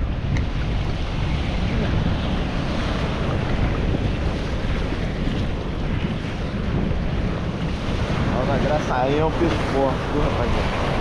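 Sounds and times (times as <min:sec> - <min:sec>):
choppy sea: 0:00.0 - 0:11.0
wind buffeting microphone: 0:00.0 - 0:11.0.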